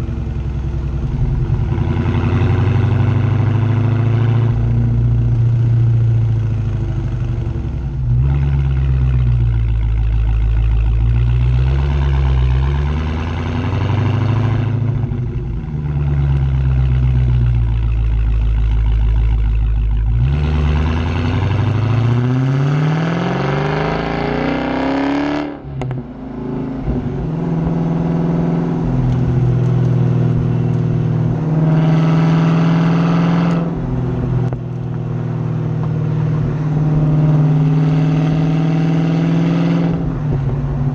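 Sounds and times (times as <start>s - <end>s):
car engine exhaust revving: 0.0s - 40.9s.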